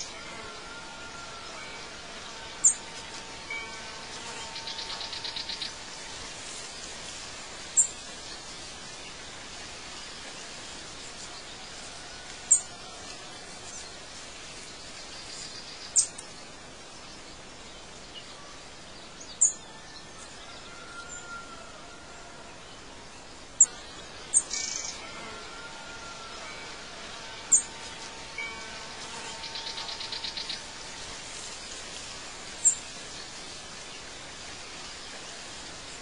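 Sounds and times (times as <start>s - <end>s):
soft background hiss: 0.0s - 36.0s.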